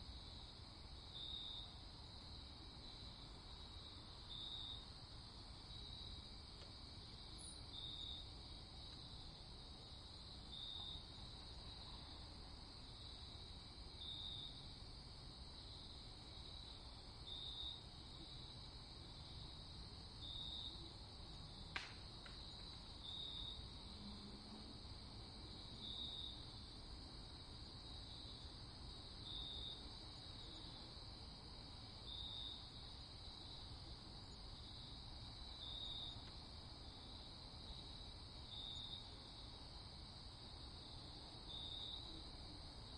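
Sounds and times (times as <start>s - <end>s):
crickets trilling: 0.1s - 42.9s.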